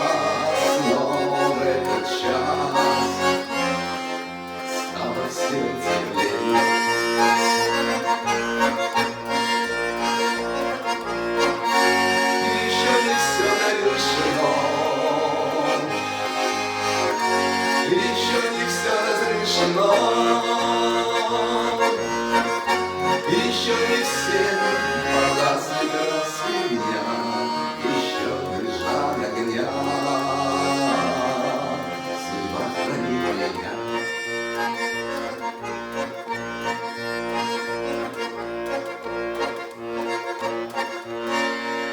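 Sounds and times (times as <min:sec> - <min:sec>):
accordion playing: 0:00.0 - 0:41.9.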